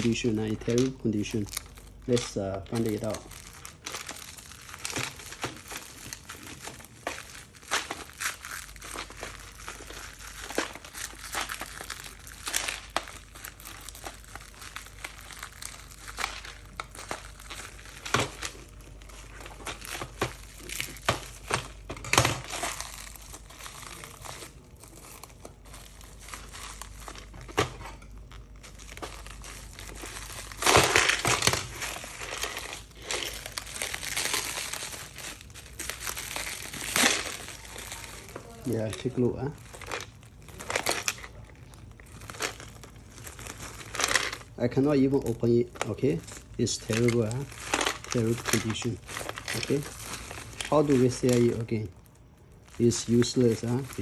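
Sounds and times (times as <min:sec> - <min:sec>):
packaging crinkling and rustling: 0:00.0 - 0:54.0.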